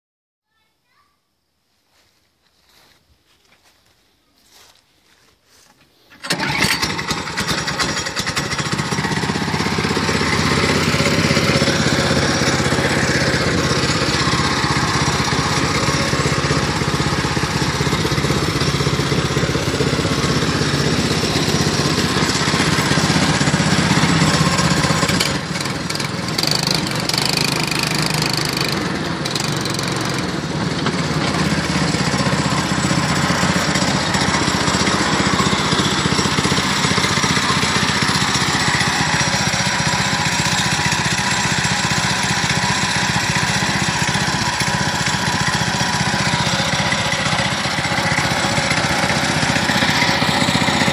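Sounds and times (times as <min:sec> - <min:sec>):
small engine running: 0:06.1 - 0:50.9.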